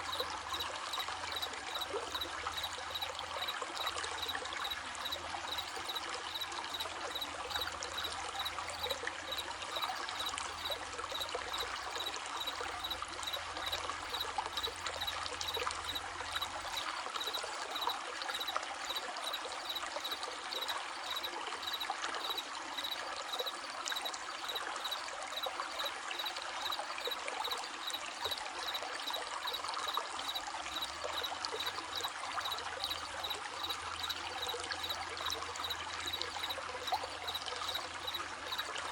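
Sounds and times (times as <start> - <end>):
crickets chirping: 0.0 - 38.9
stream babbling: 0.0 - 38.9.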